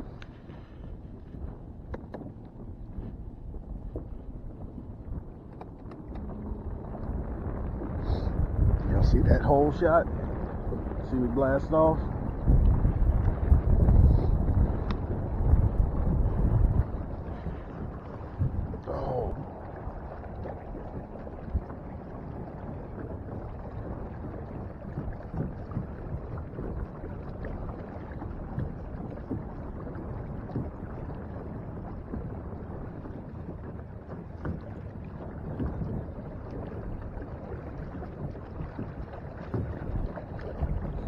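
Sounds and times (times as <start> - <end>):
water lapping against boat hull: 0.0 - 41.0
wind noise on microphone: 0.0 - 41.0.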